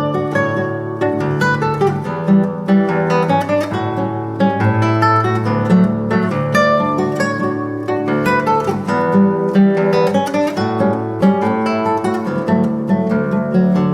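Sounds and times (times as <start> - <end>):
solo classical guitar: 0.0 - 13.9.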